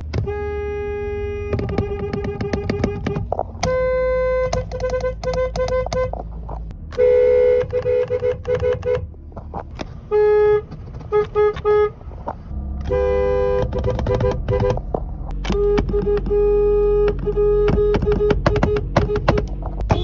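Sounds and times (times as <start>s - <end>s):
car horns honking: 0.0s - 20.0s.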